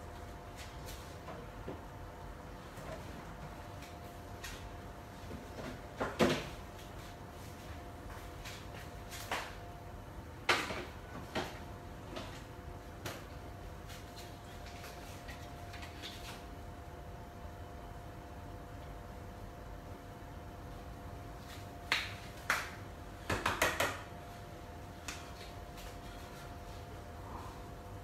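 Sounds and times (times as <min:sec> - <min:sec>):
steady stove hum: 0:00.0 - 0:28.0.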